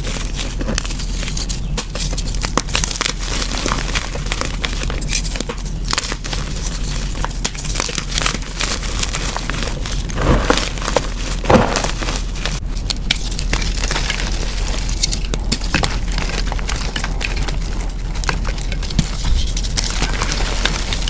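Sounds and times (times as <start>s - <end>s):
chalk being crushed: 0.0s - 12.6s, 13.2s - 21.0s.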